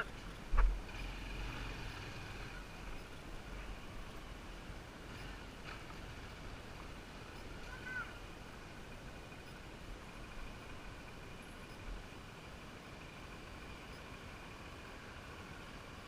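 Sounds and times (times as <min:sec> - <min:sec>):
motorbike engine rumbling: 0:00.0 - 0:16.0
road noise: 0:00.0 - 0:16.0.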